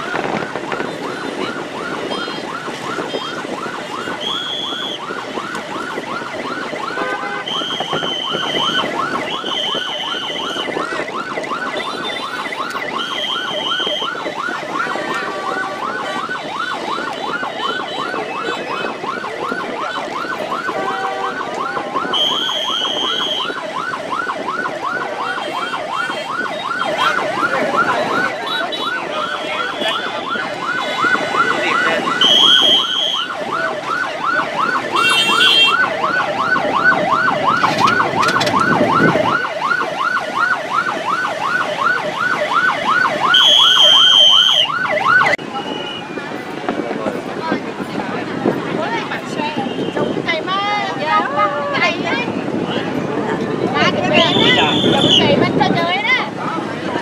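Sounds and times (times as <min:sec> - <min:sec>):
siren warbling: 0:00.0 - 0:46.0.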